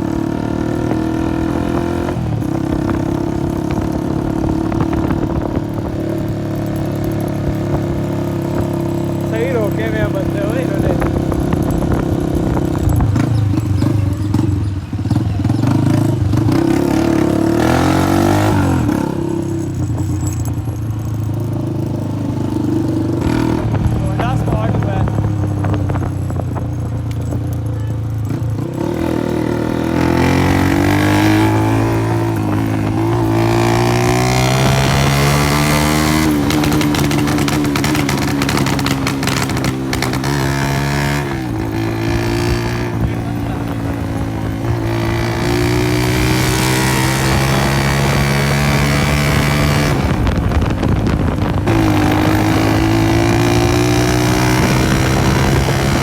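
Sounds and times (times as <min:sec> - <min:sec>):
motorcycle engine running loud: 0:00.0 - 0:56.0
rapid exhaust crackle: 0:00.0 - 0:56.0.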